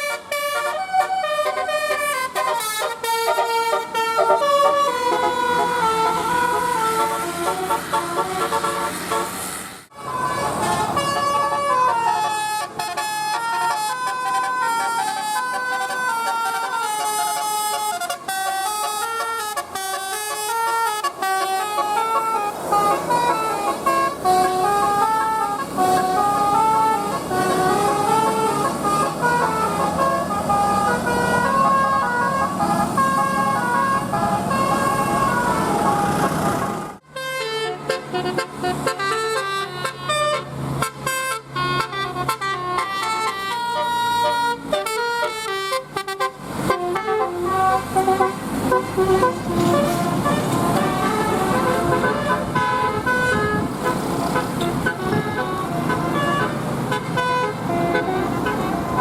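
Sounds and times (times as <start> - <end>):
multi-tone bus horn tune: 0.0 - 59.0.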